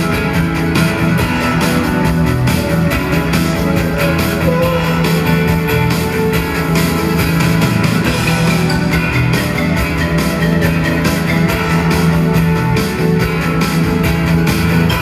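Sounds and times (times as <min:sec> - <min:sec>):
drums: 0:00.0 - 0:15.0
guitar: 0:00.0 - 0:15.0
keyboards: 0:00.0 - 0:15.0.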